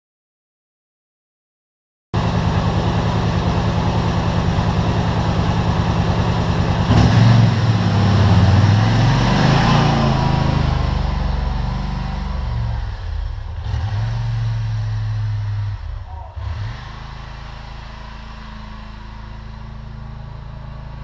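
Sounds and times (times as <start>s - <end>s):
atv engine running: 2.2s - 21.0s
plow blade pushing snow: 2.2s - 21.0s.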